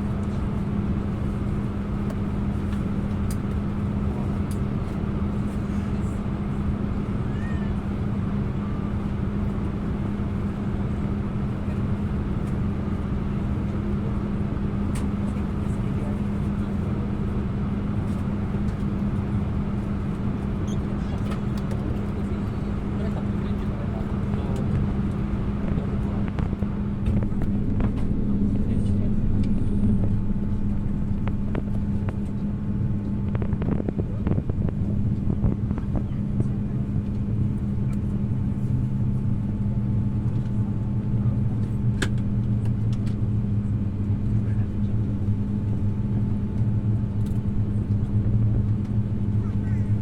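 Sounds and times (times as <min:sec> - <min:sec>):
cabin air-conditioning airflow: 0:00.0 - 0:50.0.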